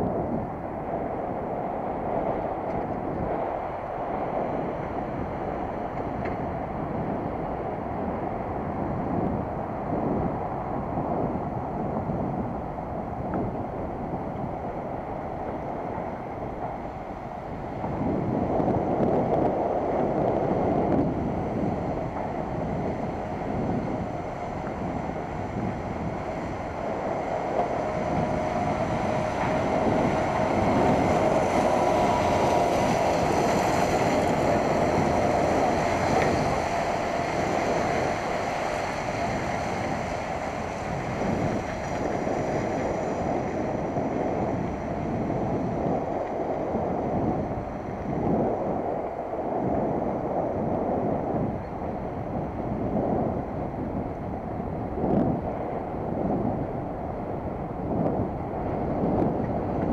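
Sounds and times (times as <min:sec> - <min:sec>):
tyres rumbling on pavement: 0:00.0 - 0:49.3
wind buffeting microphone: 0:00.0 - 0:59.9.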